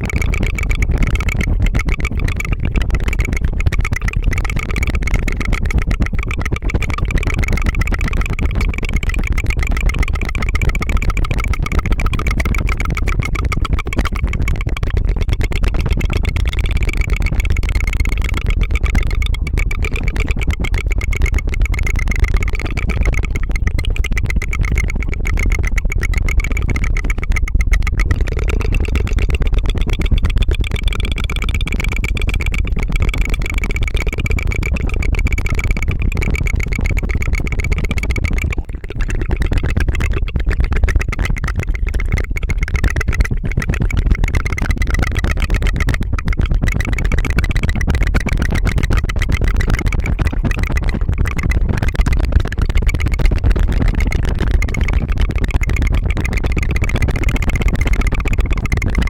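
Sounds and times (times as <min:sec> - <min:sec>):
rapid tongue trill: 0:00.0 - 0:59.0.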